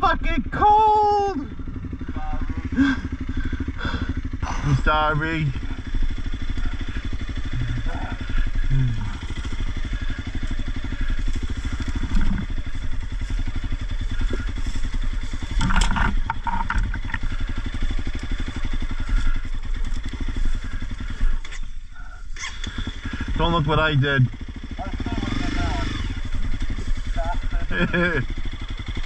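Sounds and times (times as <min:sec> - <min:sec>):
motorcycle engine at low speed: 0:00.0 - 0:29.0.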